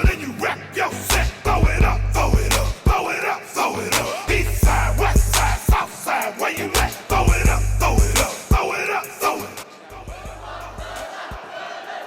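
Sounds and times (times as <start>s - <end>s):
heavy bass beat: 0.0s - 0.4s, 1.1s - 3.2s, 3.8s - 11.1s
rapped vocal: 0.0s - 12.0s.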